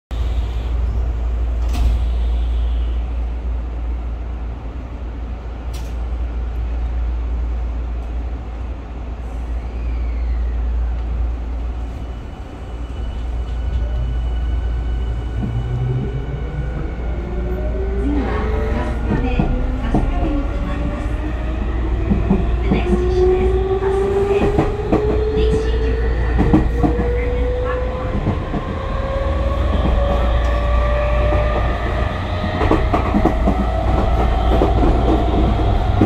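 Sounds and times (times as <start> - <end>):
train interior low rumble: 0.1 - 36.0.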